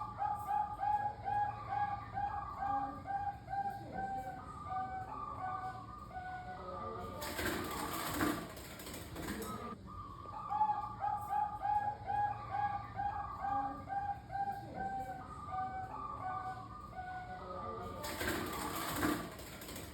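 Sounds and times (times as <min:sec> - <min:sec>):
doves cooing: 0:00.0 - 0:19.9.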